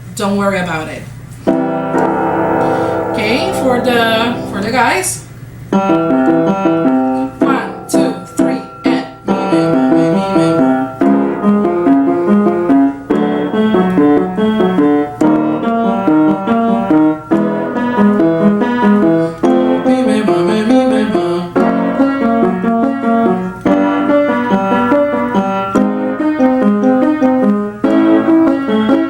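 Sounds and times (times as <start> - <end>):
piano playing stepped notes: 1.3 - 29.0.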